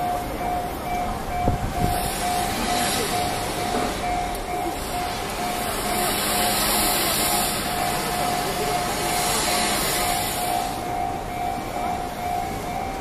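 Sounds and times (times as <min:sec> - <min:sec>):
level-crossing alarm pulsing: 0:00.0 - 0:13.0.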